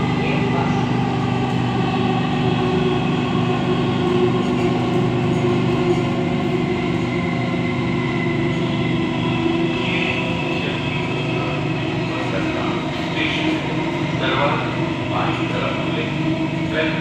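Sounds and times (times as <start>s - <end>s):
train wheels rumbling on rail: 0.0s - 17.0s
train whine: 0.0s - 17.0s.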